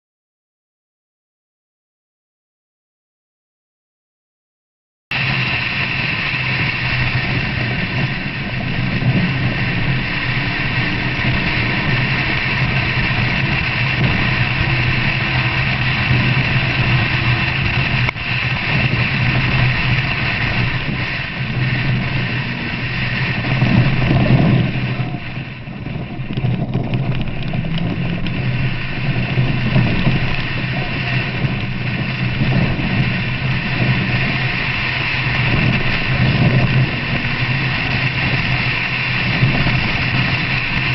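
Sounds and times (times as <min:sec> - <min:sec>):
road and wind noise: 0:05.1 - 0:40.9
vehicle engine running: 0:05.1 - 0:40.9.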